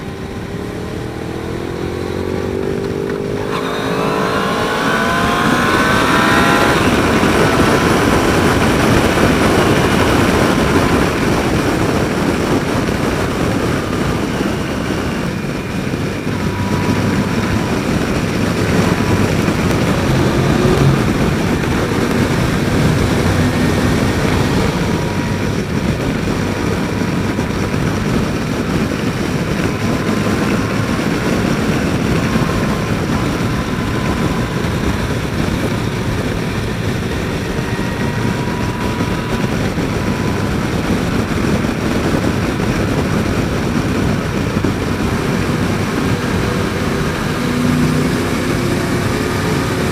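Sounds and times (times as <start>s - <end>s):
motorcycle engine hum: 0.0s - 49.9s
rushing wind noise: 0.0s - 49.9s.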